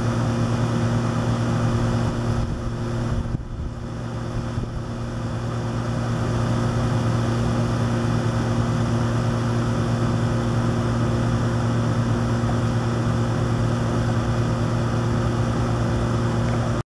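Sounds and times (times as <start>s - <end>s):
motor humming: 0.0s - 16.8s.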